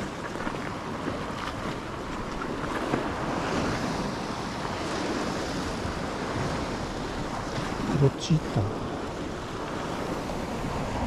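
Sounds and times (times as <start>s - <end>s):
sea waves on rocky shore: 0.0s - 11.0s.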